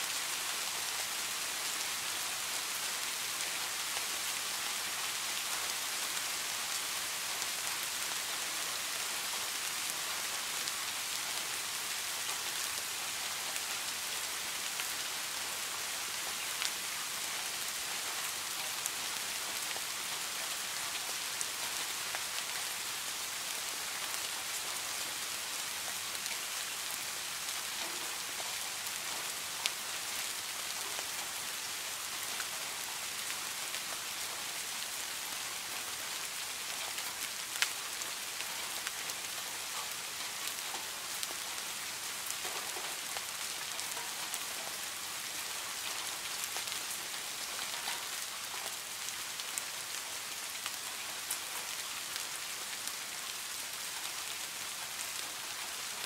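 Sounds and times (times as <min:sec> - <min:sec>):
rain falling on a pond: 0:00.0 - 0:56.0.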